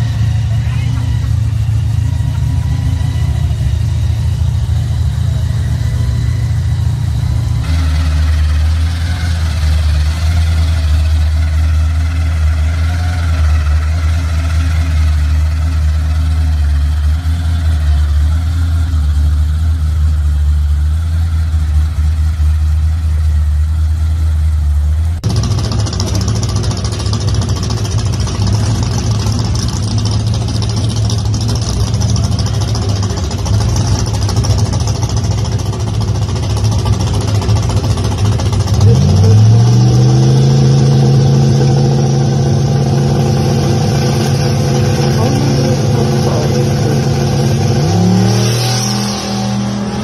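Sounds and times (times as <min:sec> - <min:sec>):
supercharged engine idling: 0:00.0 - 0:50.0.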